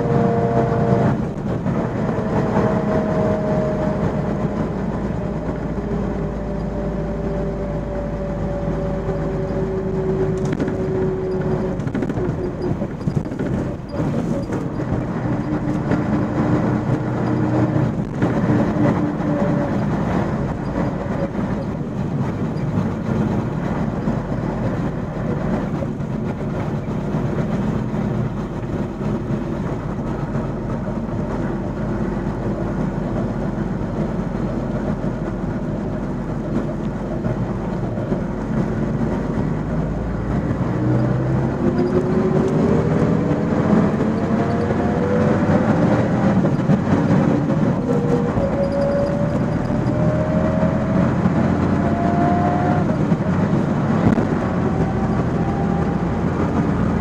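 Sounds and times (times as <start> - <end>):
engine and road noise: 0.0 - 57.0
engine whine: 0.0 - 57.0.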